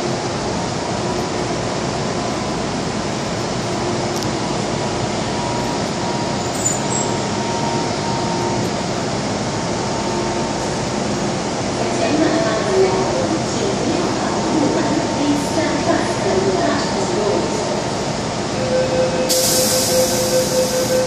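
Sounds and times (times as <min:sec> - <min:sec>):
train air-conditioning hum: 0:00.0 - 0:21.0.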